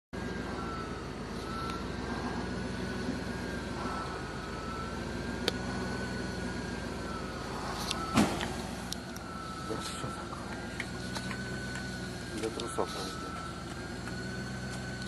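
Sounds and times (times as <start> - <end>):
high whine: 0.2 - 15.0
vehicle engine running: 0.2 - 15.0.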